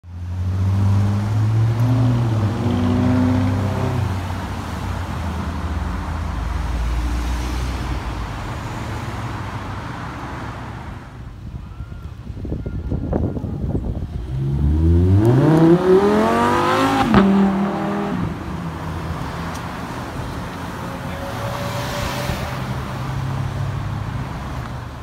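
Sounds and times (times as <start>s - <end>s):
exhaust and road noise: 0.0s - 25.0s.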